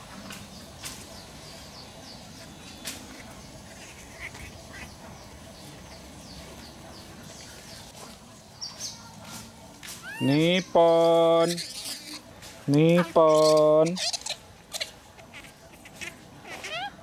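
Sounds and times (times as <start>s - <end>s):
bird chirping: 0.2s - 17.0s.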